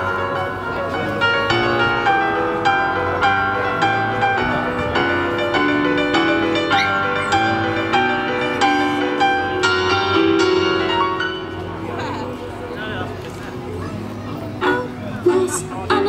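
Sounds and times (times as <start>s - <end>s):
keyboard in piano voice: 0.0s - 16.0s.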